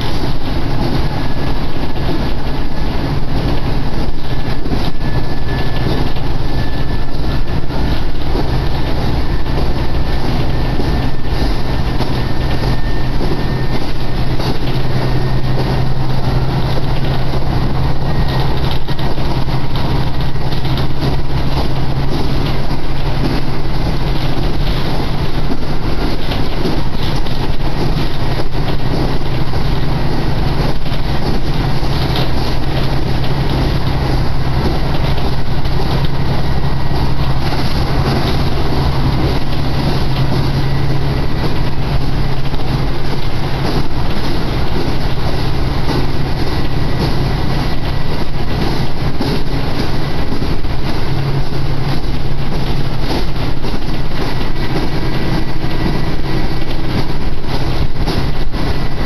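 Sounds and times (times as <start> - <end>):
diesel engine drone: 0.0 - 59.0
train wheels rumbling on rails: 0.0 - 59.0.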